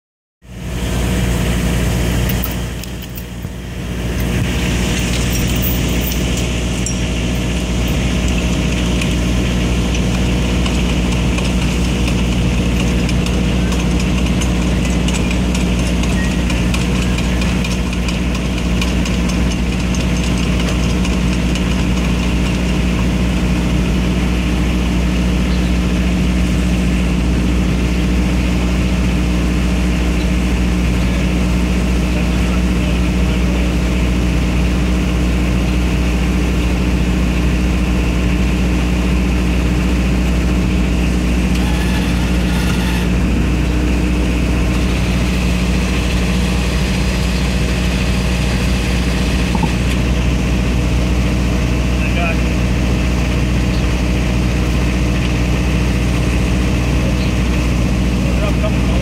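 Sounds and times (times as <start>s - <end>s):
truck engine idling: 0.5s - 59.0s.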